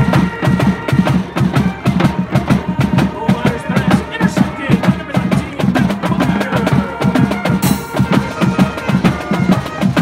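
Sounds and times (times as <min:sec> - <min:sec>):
brass holding notes: 0:00.0 - 0:10.0
snare and tenor drums: 0:00.0 - 0:10.0.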